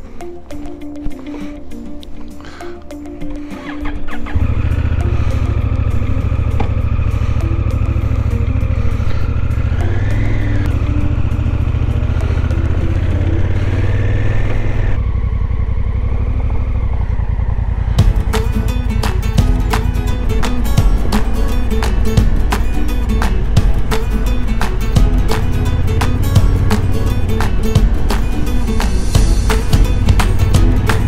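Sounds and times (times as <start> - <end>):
motorcycle engine riding off: 3.5 - 31.0.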